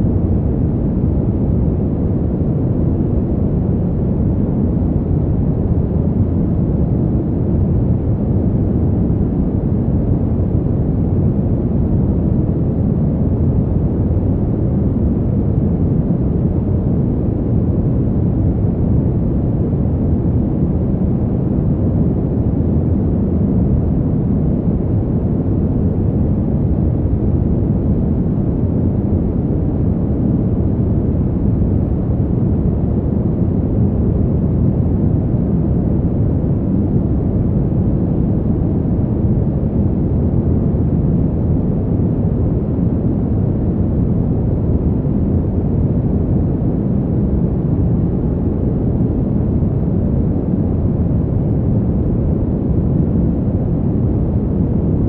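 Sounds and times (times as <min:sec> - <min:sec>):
fan heater blowing air: 0:00.0 - 0:55.0.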